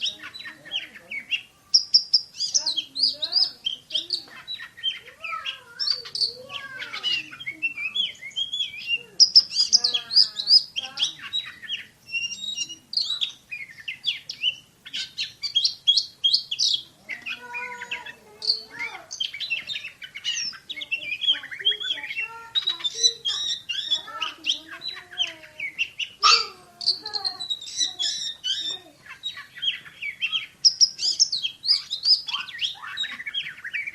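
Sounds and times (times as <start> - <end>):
songbird singing rapid whistles: 0.0 - 33.9.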